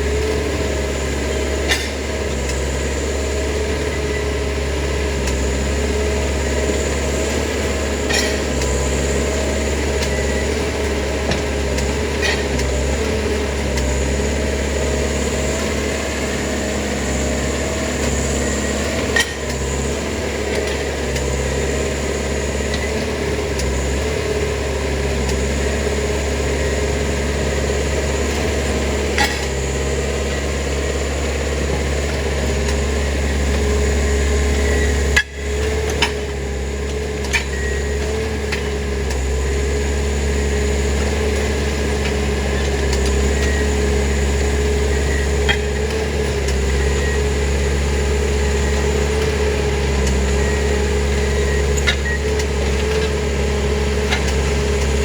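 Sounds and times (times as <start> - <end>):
track machine engine drone: 0.0 - 55.0.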